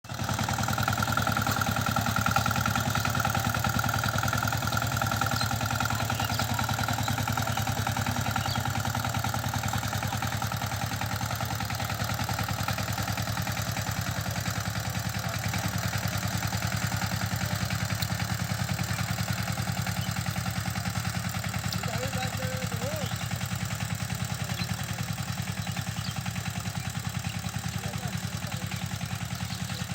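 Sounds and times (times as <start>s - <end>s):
diesel engine chugging: 0.0s - 29.9s.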